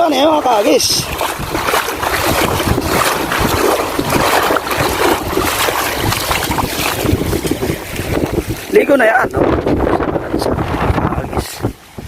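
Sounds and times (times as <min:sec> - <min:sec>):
sea water washing: 0:00.0 - 0:12.0
wind buffeting microphone: 0:00.0 - 0:12.0.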